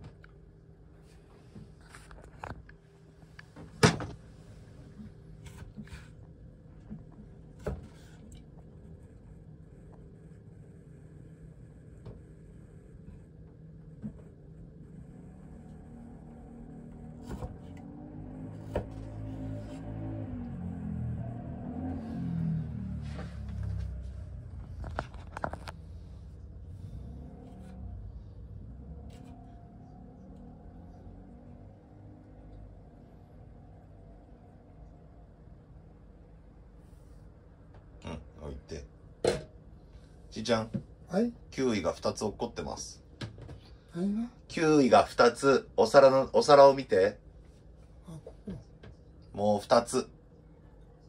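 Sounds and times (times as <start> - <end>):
low steady rumble: 0.0 - 51.0.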